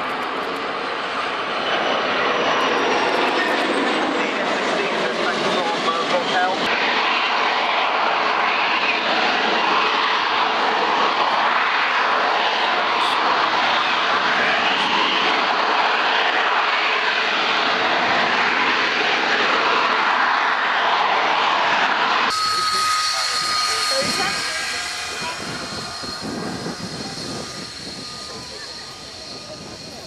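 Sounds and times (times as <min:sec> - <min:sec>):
jet engine roaring: 0:00.0 - 0:30.0.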